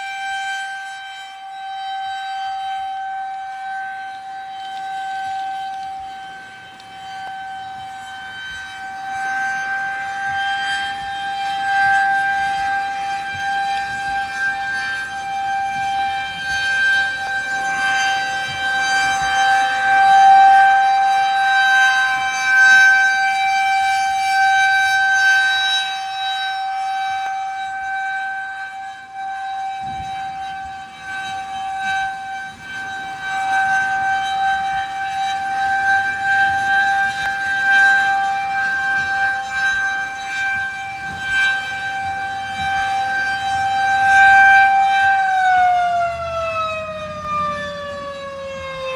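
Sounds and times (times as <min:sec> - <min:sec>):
rotating warning siren wailing: 0:00.0 - 0:48.9.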